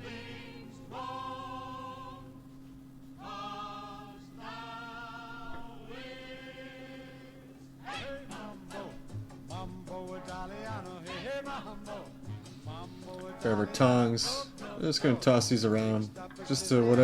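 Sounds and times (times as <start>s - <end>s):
choir-like vocal chords: 0.0s - 2.5s, 3.2s - 17.0s.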